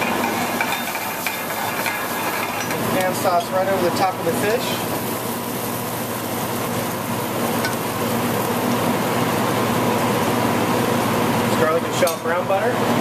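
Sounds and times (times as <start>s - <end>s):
butter sizzling in pan: 0.0s - 11.7s
kitchen equipment hum: 0.0s - 13.0s.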